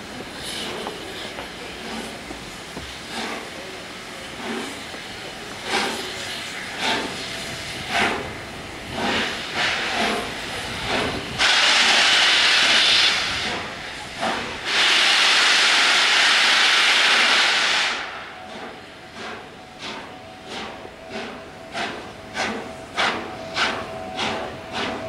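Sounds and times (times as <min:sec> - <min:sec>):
loud hiss of escaping steam: 0:00.0 - 0:25.0
steam puffs: 0:00.0 - 0:25.0.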